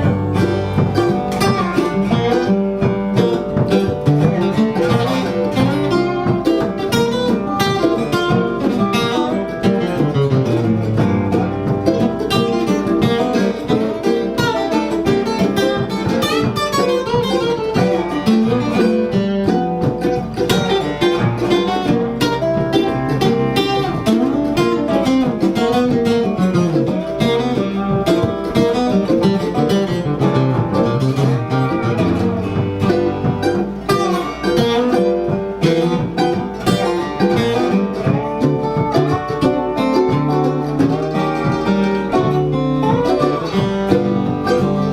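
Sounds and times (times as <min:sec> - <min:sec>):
acoustic guitar picking: 0:00.0 - 0:44.9.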